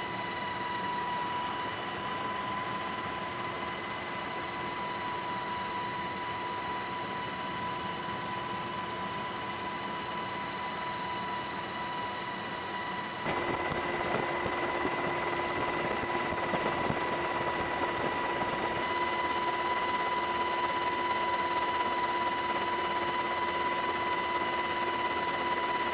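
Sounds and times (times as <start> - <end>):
aircraft engine with high whine: 0.0 - 25.9.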